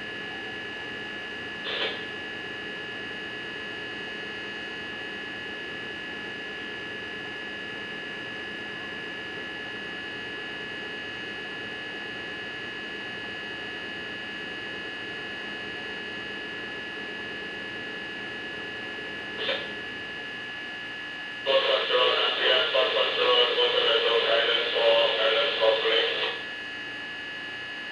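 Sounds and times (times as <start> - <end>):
hum with high whine tones: 0.0 - 27.9.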